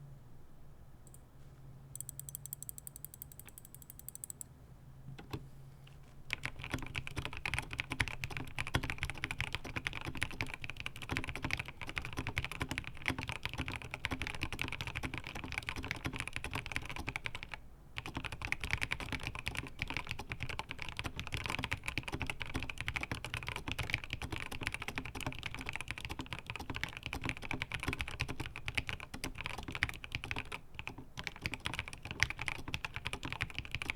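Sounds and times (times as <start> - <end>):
fast mechanical keyboard typing: 2.0 - 4.4, 6.3 - 33.9.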